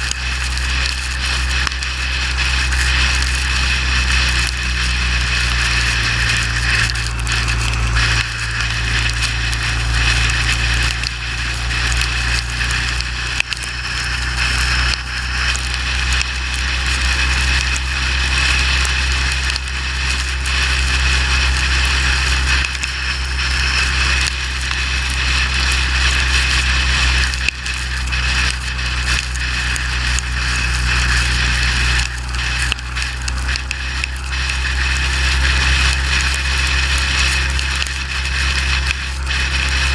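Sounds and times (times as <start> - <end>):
motorcycle engine and wind drone: 0.0 - 39.9
tyre spray and rain hiss: 0.0 - 39.9.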